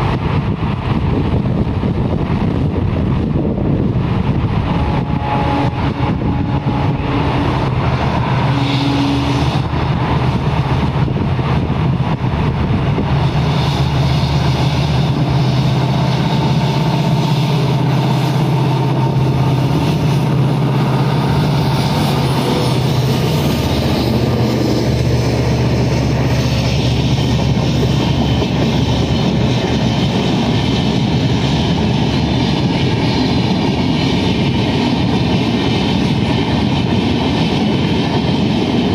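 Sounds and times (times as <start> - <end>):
diesel locomotive engine passing: 0.0 - 38.9
train coaches rumbling over rails: 0.0 - 38.9.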